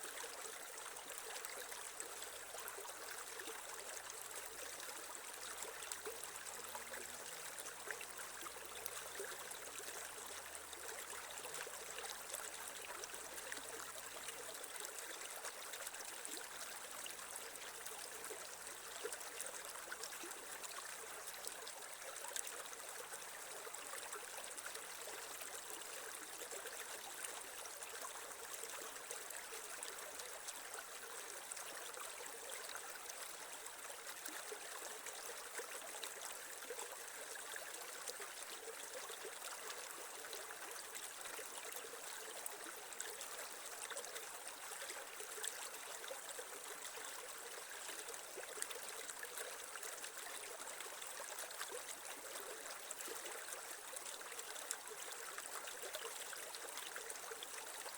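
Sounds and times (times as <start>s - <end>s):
creek water trickling over stones: 0.0s - 57.9s.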